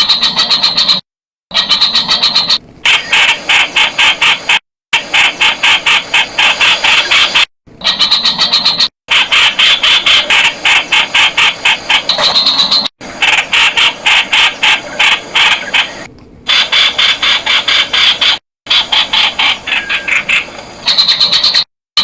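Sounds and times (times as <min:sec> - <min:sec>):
bird calling rapid sharp notes: 0:00.0 - 0:21.7.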